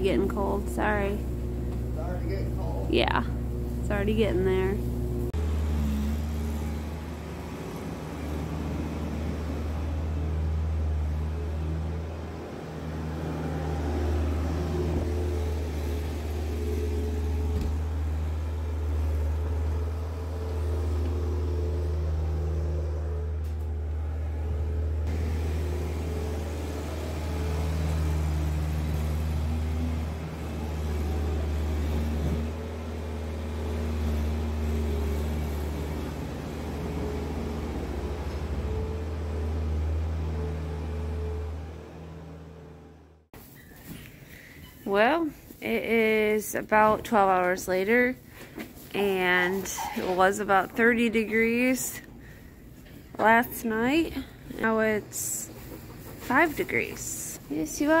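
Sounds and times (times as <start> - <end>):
diesel engine running under load: 0.0 - 47.5, 50.5 - 58.0.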